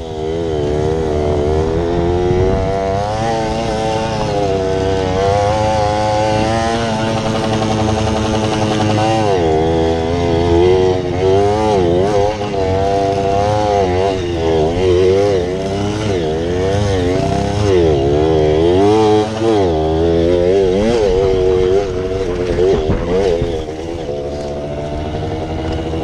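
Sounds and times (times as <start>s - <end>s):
small engine revving: 0.0s - 26.0s.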